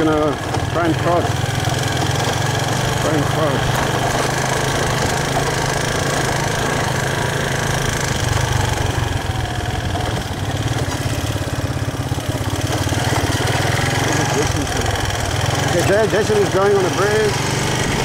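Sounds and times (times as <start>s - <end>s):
motorbike engine idling: 0.0s - 18.0s.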